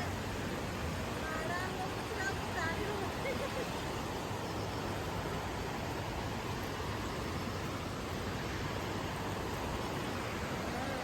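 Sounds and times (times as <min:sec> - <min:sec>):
rush of fast-flowing water: 0:00.0 - 0:11.0.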